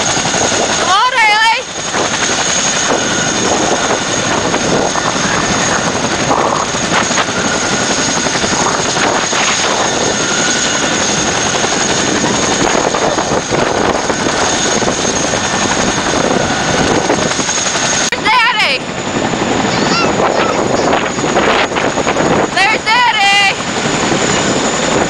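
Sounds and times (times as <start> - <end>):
helicopter engines running: 0.0 - 25.0
high turbine whine: 0.0 - 25.0.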